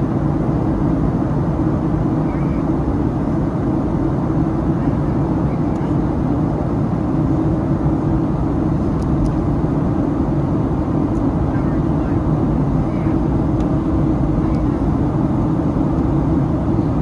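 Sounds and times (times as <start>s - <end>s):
cabin airflow rush: 0.0s - 17.0s
low jet engine rumble: 0.0s - 17.0s.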